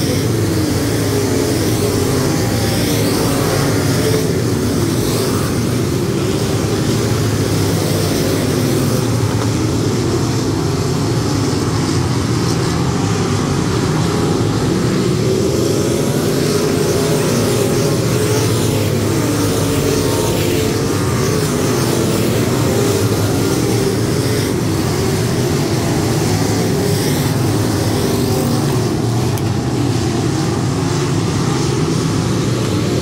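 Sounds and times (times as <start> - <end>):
race car engines droning: 0.0 - 33.0.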